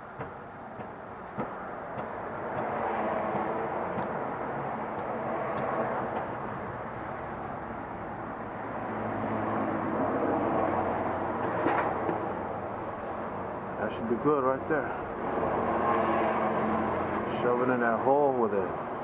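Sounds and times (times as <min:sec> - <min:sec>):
distant engine noise: 0:00.0 - 0:19.0.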